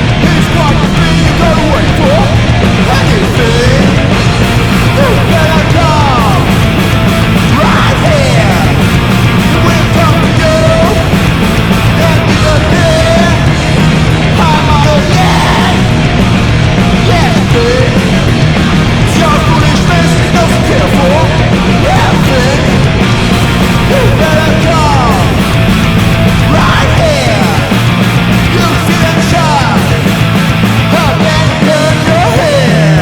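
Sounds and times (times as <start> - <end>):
heavy punk rock music: 0.0 - 33.0.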